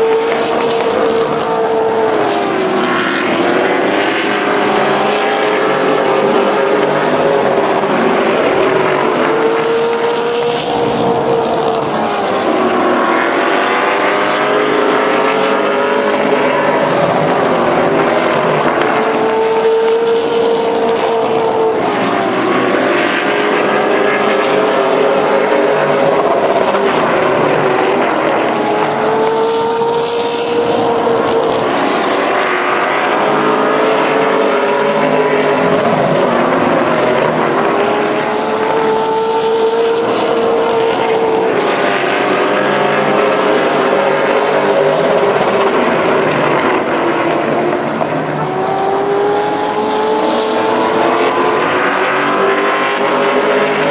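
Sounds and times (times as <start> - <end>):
race car engines running hard: 0.0 - 53.9.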